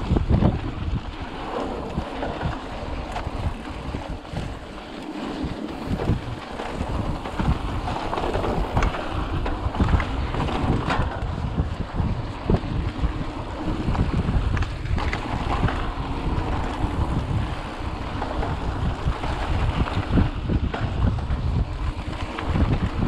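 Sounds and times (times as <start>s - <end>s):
tyres rumbling on dirt: 0.0s - 23.0s
wind buffeting microphone: 0.0s - 23.0s
bike knocks and rattles: 1.8s - 23.0s.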